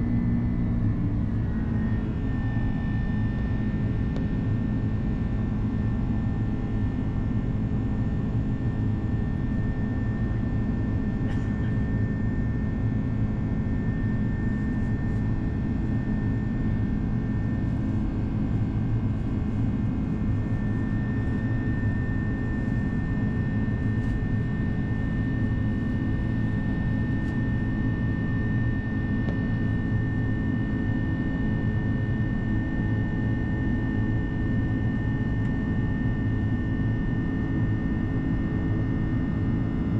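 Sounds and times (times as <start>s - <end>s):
aircraft engine and airflow drone: 0.0s - 39.9s.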